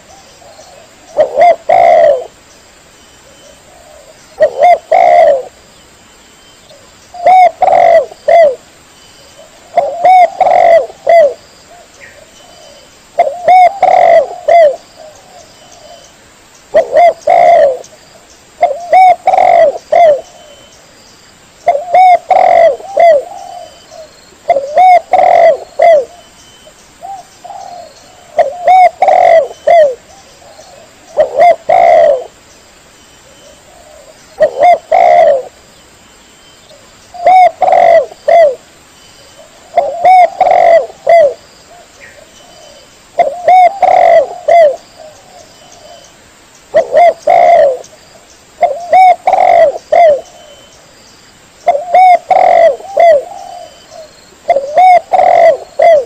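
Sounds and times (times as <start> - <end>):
dove cooing: 0.0 - 2.4, 3.2 - 5.6, 6.7 - 8.6, 9.4 - 16.1, 16.7 - 17.9, 18.6 - 20.7, 21.6 - 26.3, 27.0 - 32.4, 33.2 - 35.6, 36.7 - 46.1, 46.7 - 48.0, 48.6 - 50.7, 51.6 - 56.0.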